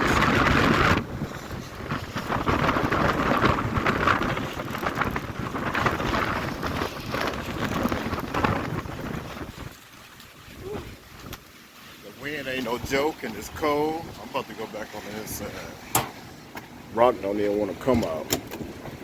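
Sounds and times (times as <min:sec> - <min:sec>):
gusty wind on microphone: 0:00.0 - 0:11.5, 0:12.6 - 0:17.0, 0:17.8 - 0:19.0.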